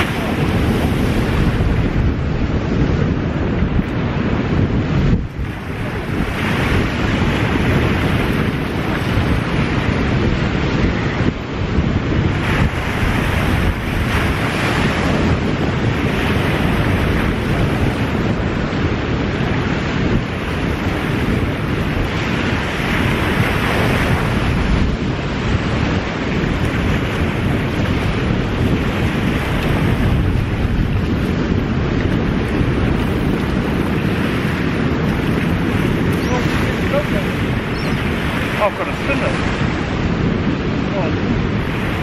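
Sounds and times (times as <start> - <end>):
surf washing on beach: 0.0 - 42.0
wind buffeting microphone: 0.0 - 42.0.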